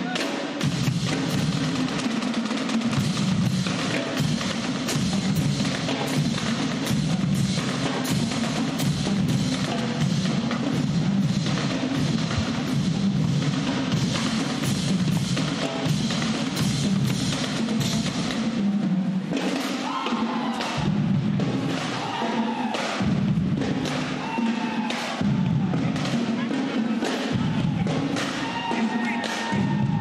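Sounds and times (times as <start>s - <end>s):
drum-driven music: 0.0s - 30.0s.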